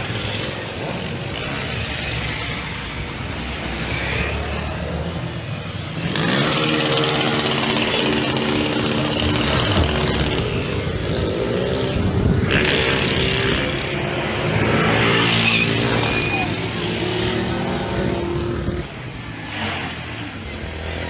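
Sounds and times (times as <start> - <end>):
motorcycle engines revving past: 0.0 - 21.0.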